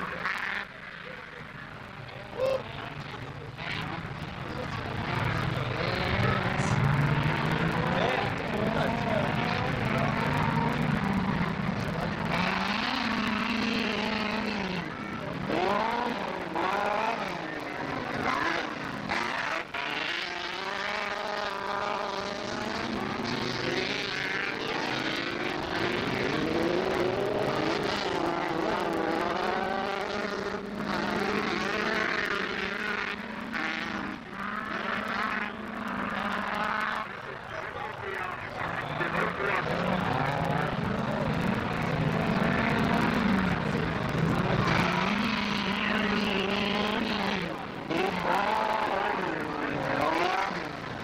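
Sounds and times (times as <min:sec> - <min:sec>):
race car engines revving: 0:00.0 - 0:51.0.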